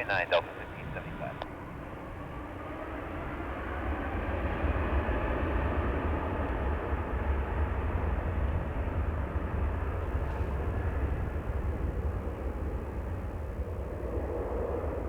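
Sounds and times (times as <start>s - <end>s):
jet engines: 0.0s - 15.0s
wind rumble on microphone: 0.0s - 15.0s.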